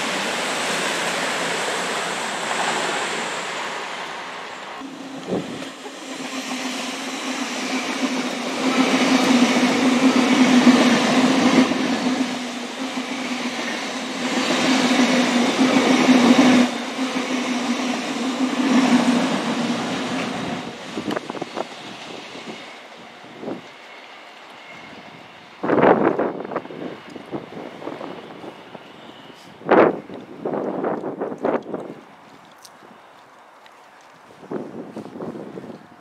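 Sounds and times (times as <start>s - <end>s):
train running past: 0.0s - 32.4s.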